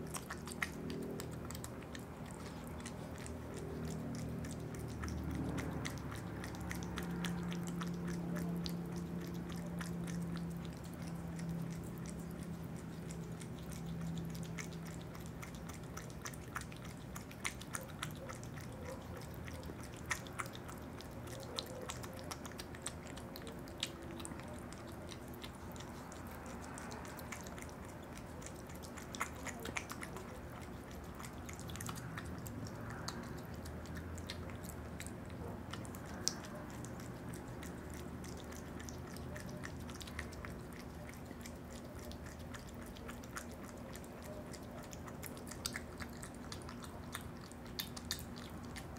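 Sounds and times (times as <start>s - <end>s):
animal chewing with sharp clicks: 0.0s - 48.9s
steady low hum: 0.0s - 48.9s.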